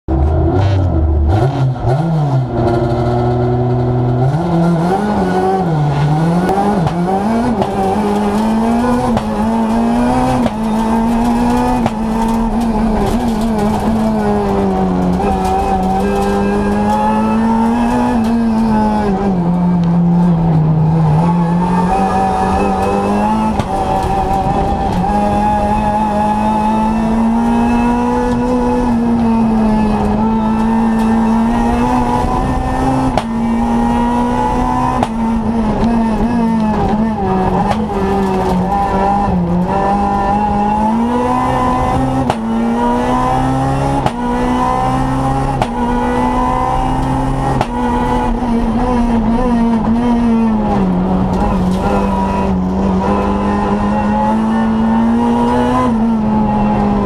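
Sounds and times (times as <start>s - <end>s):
rally car engine revving: 0.1s - 57.0s.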